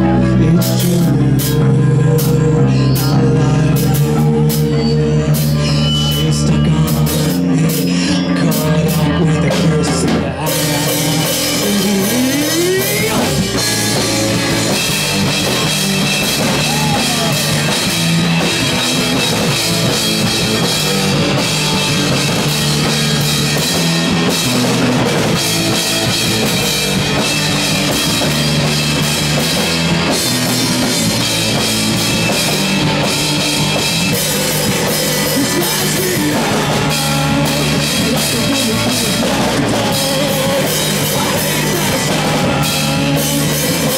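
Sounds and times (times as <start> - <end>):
drum kit: 0.0 - 43.9
electric guitar: 0.0 - 43.9
live rock band playing: 0.0 - 43.9.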